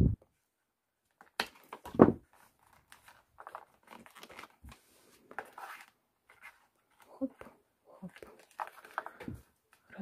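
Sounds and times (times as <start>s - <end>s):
paper tubes rustling: 1.5s - 9.9s.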